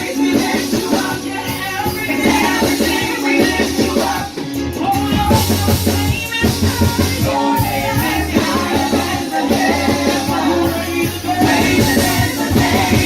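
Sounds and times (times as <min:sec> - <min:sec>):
people singing: 0:00.0 - 0:13.0
worship band playing: 0:00.0 - 0:13.0.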